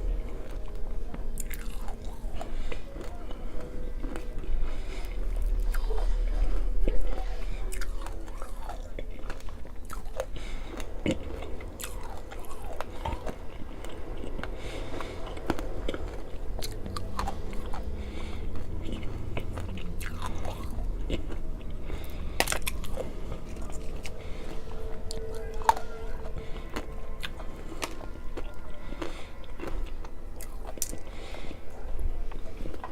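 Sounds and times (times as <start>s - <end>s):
crunchy candy chewing: 0.0s - 32.9s.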